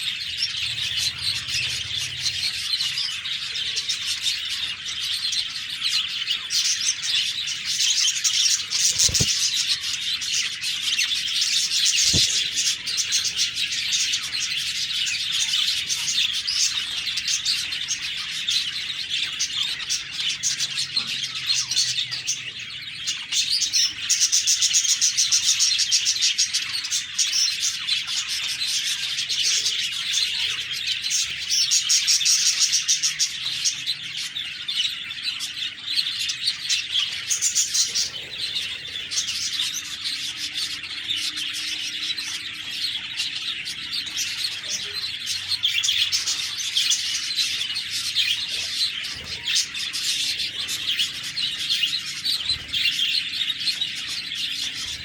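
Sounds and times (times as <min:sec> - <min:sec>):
budgies chirping and warbling: 0:00.0 - 0:55.0.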